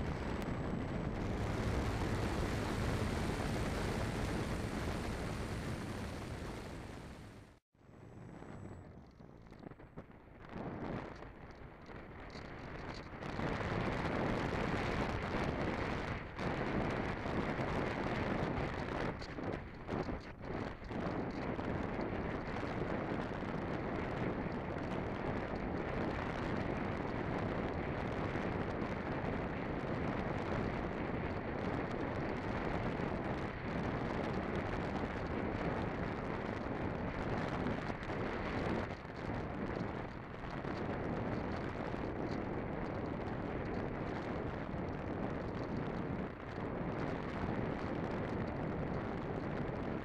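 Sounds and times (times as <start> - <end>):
wind buffeting microphone: 0.0 - 7.4, 8.2 - 50.0.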